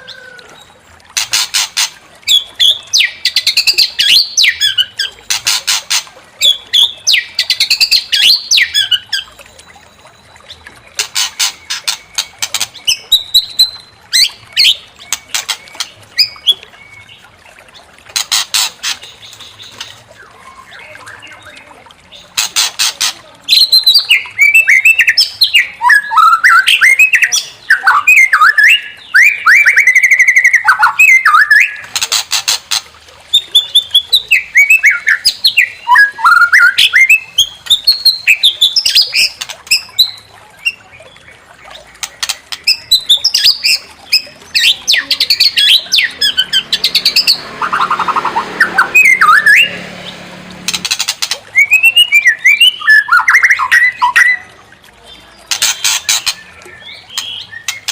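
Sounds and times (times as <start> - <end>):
harsh rattling bird calls: 0.0 - 9.4, 10.5 - 17.2, 18.1 - 40.8, 41.7 - 54.5, 55.1 - 57.9
songbird singing: 0.0 - 57.9.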